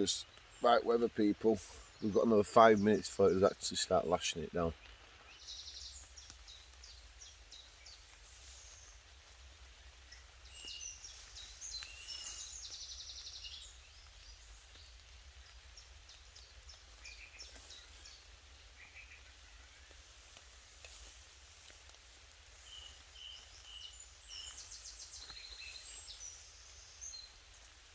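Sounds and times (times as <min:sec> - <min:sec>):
songbirds chirping and trilling: 0:00.0 - 0:27.9.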